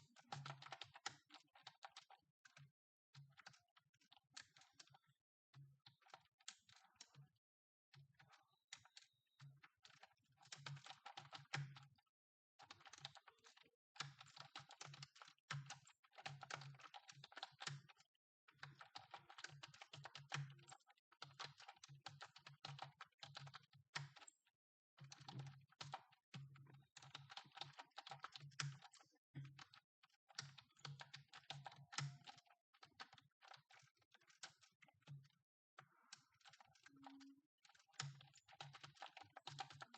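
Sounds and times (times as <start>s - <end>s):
fast typing on keyboard: 0.1s - 5.2s, 5.9s - 7.3s, 8.1s - 12.0s, 12.6s - 39.9s.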